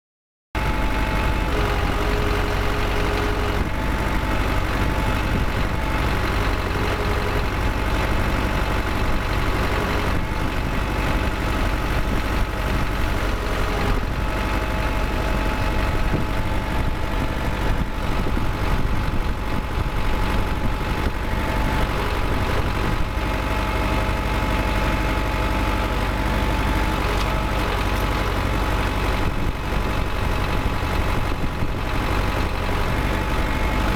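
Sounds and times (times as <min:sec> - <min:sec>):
drive shaft whine: 0:00.6 - 0:33.9
tractor diesel engine humming: 0:00.6 - 0:33.9.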